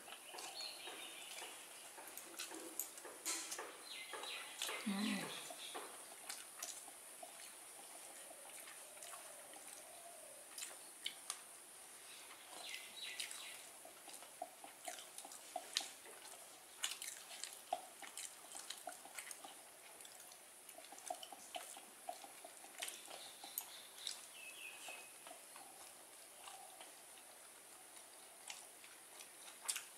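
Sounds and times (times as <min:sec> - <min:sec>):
chewing clicks: 0:00.0 - 0:11.5, 0:12.3 - 0:29.9.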